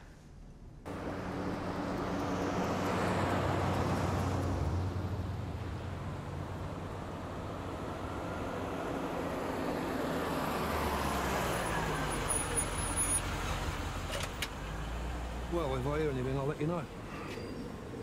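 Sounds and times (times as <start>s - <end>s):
car engine and tyre noise: 0.8s - 18.0s.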